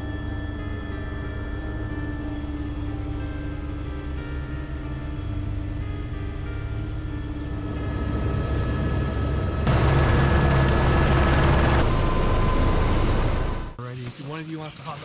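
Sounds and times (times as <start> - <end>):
helicopter rotor and engine whine: 0.0 - 15.0.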